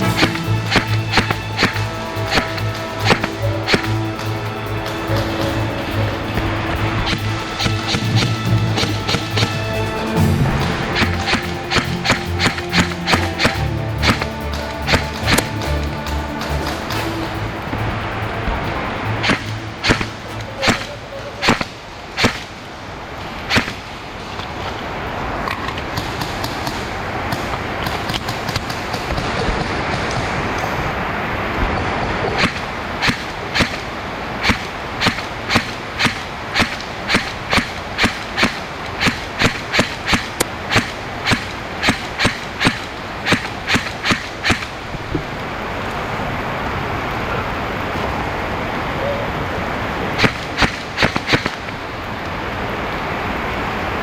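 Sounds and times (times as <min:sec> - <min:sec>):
steady noisy hiss: 0:00.0 - 0:54.0.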